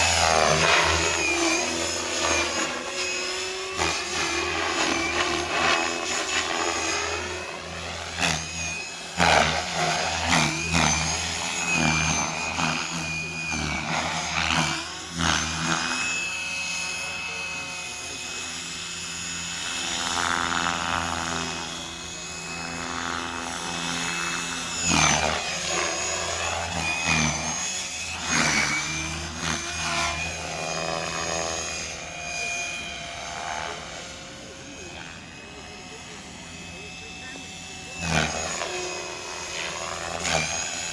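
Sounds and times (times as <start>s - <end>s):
rc helicopter motor whine: 0.0s - 40.9s.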